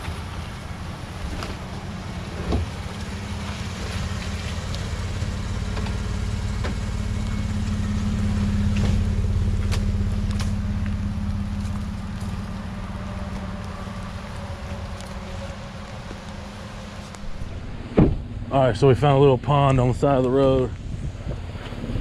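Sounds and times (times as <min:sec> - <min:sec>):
pickup truck driving past: 0:00.0 - 0:19.5.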